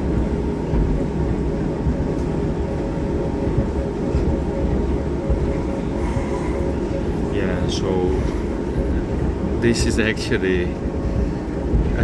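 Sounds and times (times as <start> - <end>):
faint constant hum: 0.0 - 12.0
rail vehicle rumble: 0.0 - 12.0.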